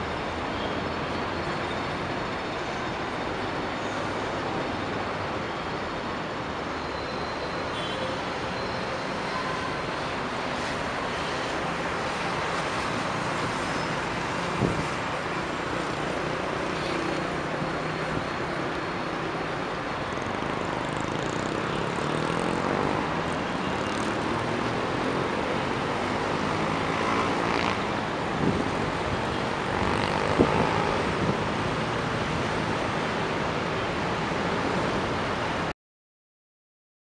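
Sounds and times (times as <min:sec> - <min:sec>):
city traffic noise: 0:00.0 - 0:35.7.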